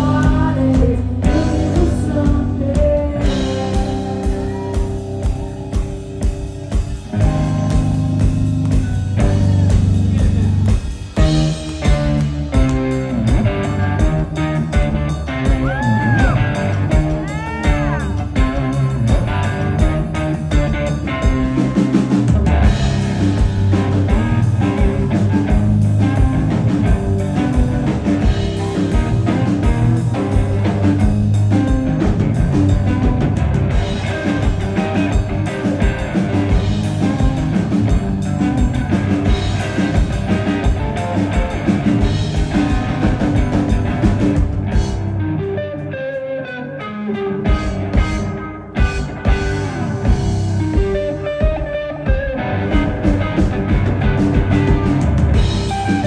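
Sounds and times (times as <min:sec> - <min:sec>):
drum kit: 0:00.0 - 0:46.4, 0:47.1 - 0:56.0
electric guitar: 0:00.0 - 0:56.0.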